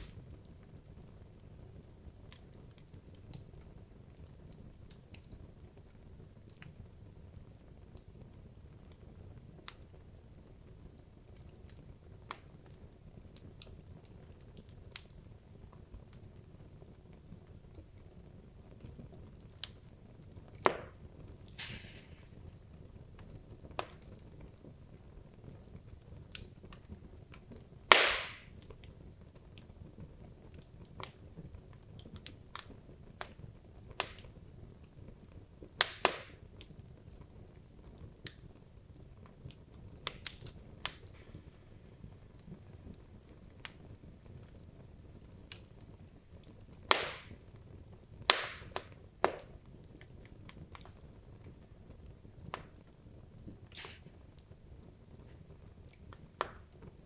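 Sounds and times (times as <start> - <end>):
low rumble of flame: 0.0 - 27.9, 36.4 - 57.0
logs crackling and popping: 0.0 - 57.0.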